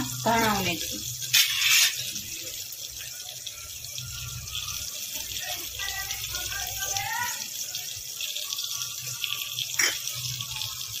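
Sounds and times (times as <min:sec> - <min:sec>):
pot cooking hiss: 0:00.0 - 0:11.0.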